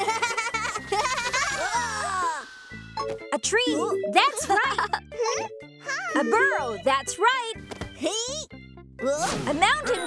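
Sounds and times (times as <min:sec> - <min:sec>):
playful cartoon music: 0:00.0 - 0:10.0.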